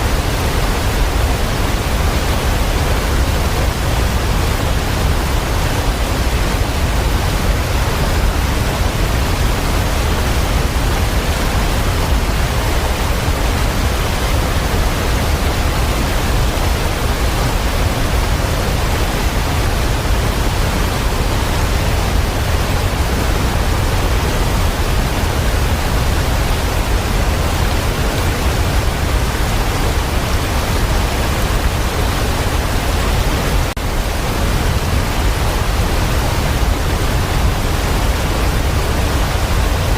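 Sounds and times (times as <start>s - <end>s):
falling water rushing: 0.0s - 39.9s.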